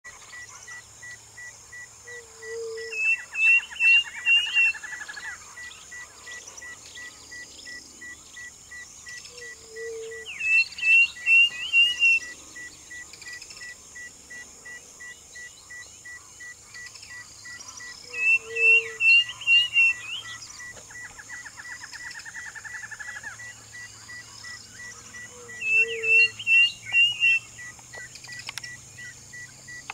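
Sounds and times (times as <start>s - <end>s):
bird singing: 0.1s - 29.9s.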